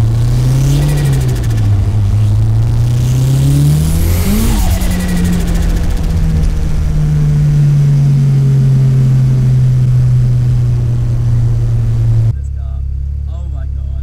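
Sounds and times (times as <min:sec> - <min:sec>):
car engine from inside cabin: 0:00.0 - 0:14.0.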